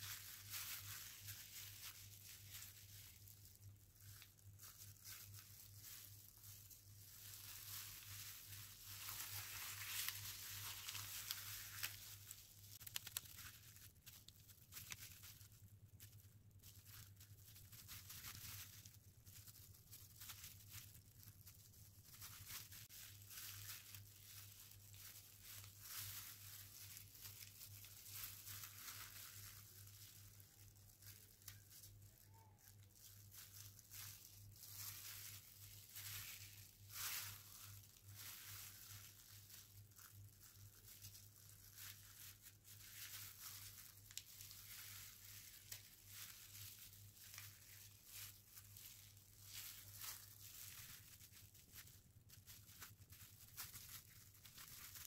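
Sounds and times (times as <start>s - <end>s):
paper being creased and folded: 0.0s - 55.0s
plastic gloves crinkling: 0.0s - 55.0s.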